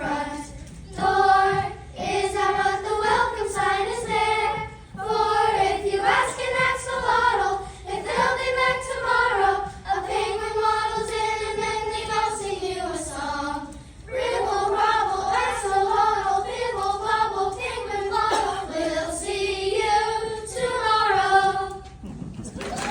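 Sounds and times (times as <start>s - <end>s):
children's choir singing: 0.0s - 22.9s.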